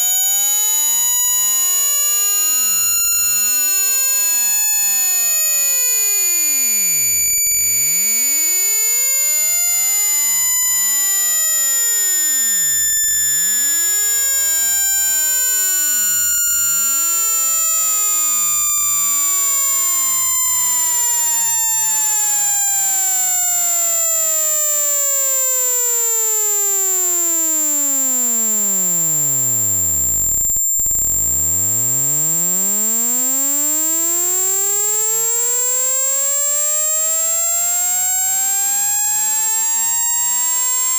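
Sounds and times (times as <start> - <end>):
sine tone sweeping in pitch: 0.0 - 40.9.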